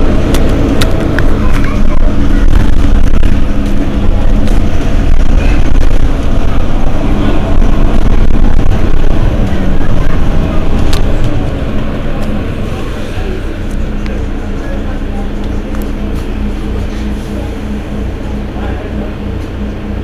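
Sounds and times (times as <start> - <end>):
bus engine idling: 0.0 - 20.0.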